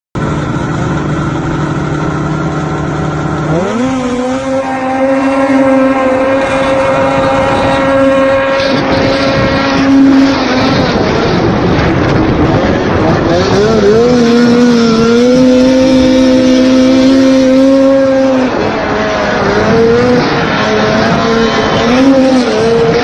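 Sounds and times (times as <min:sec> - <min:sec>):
snowmobile engine revving: 0:00.2 - 0:23.0.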